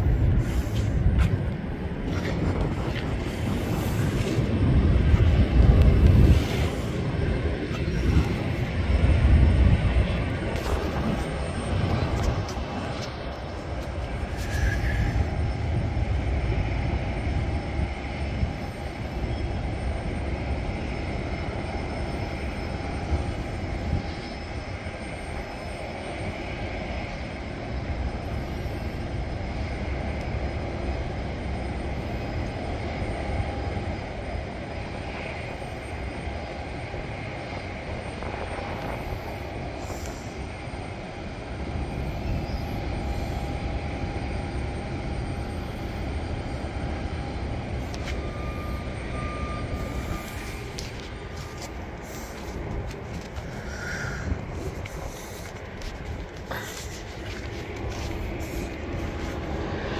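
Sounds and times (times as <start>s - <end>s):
distant jet engine whine: 0.0s - 59.9s
wind rumble on microphone: 0.0s - 59.9s.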